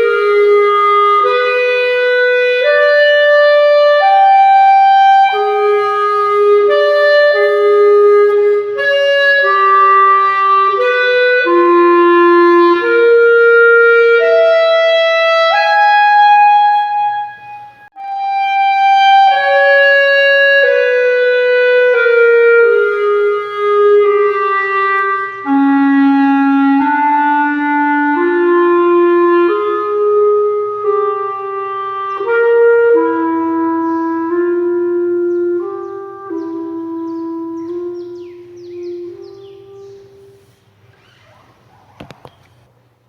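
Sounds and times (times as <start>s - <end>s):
solo clarinet playing held notes: 0.0s - 40.6s.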